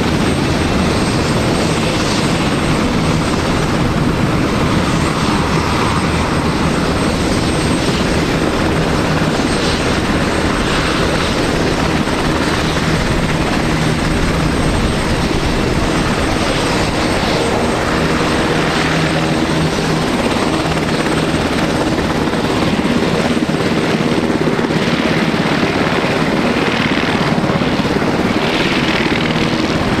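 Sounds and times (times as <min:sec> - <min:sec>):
helicopter rotor and engines: 0:00.0 - 0:30.0.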